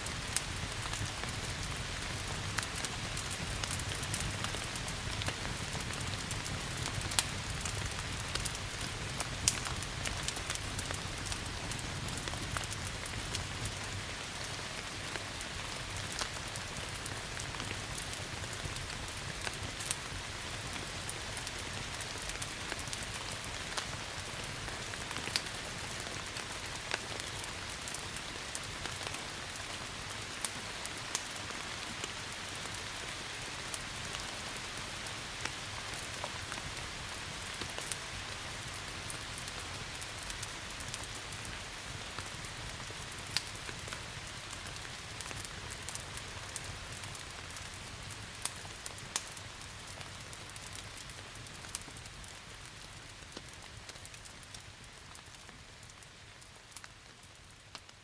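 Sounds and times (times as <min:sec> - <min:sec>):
steady rain hissing: 0:00.0 - 0:58.0
wood fire crackling: 0:00.0 - 0:58.0.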